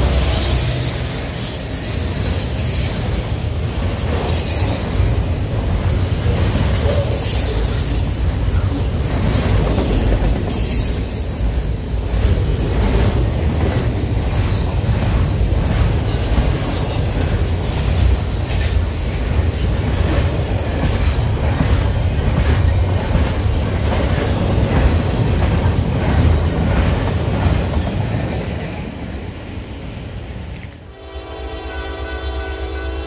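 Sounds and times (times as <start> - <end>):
freight train cars rumbling past: 0.0 - 33.0
wheels clicking over rail joints: 1.3 - 28.8.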